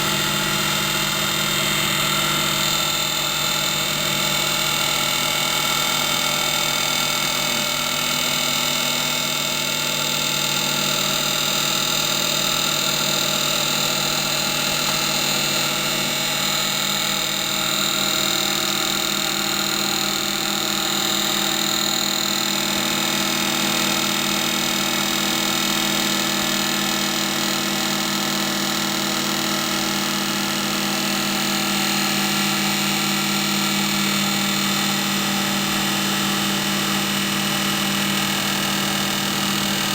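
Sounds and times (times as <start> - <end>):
lathe running: 0.0 - 39.9.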